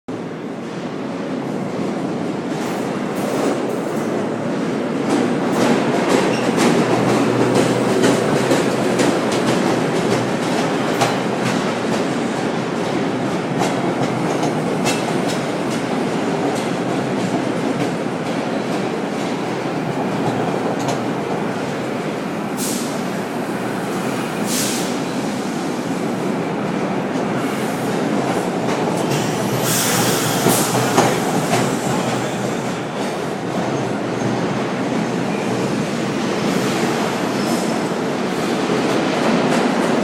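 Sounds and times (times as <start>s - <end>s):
subway wheels clattering over rail joints: 0.1s - 40.0s.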